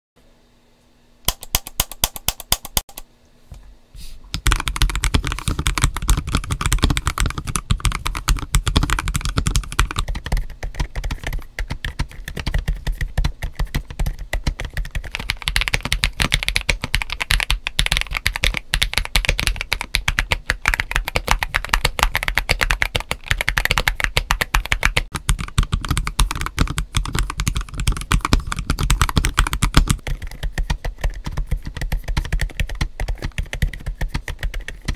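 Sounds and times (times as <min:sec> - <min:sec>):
mechanical keyboard typing: 0:01.3 - 0:03.0, 0:04.4 - 0:34.9.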